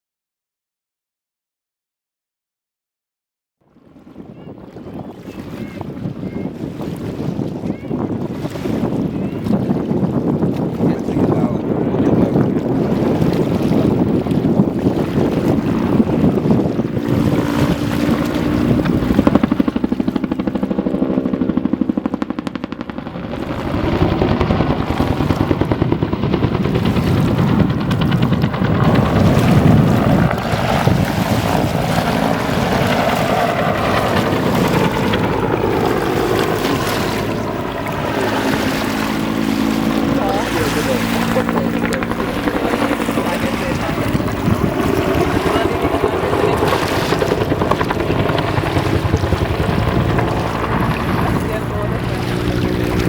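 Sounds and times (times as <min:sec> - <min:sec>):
wind buffeting microphone: 0:03.7 - 0:53.0
helicopter rotor and turbine: 0:03.8 - 0:53.0.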